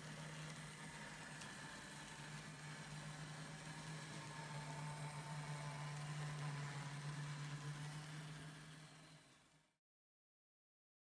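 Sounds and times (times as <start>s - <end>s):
model train humming: 0.0s - 9.7s.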